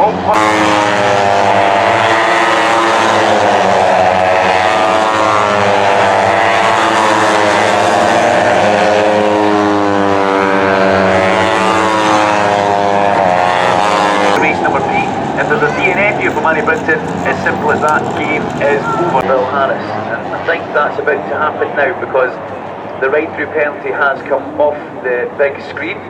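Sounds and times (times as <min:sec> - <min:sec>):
motorbike engines revving: 0:00.0 - 0:26.0.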